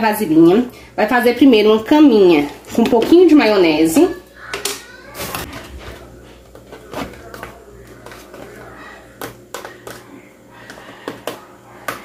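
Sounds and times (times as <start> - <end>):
steady low hum: 0.0 - 4.5, 5.3 - 12.0.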